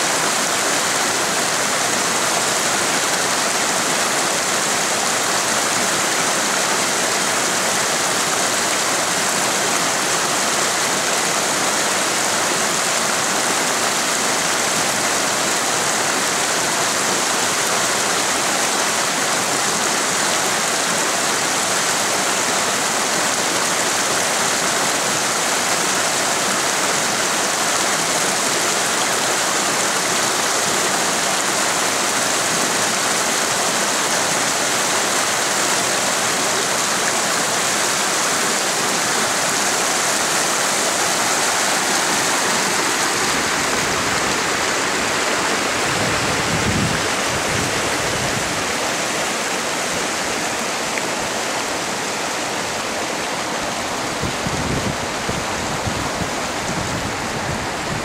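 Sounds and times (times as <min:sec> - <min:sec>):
creek rushing over boulders: 0:00.0 - 0:58.0.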